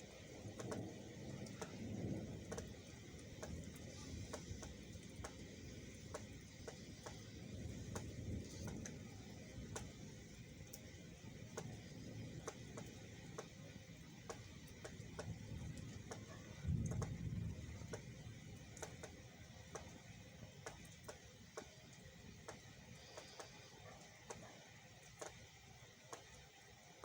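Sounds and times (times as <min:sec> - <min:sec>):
thunder rumbling: 0:00.0 - 0:22.6
raindrops ticking on a surface: 0:00.0 - 0:27.0.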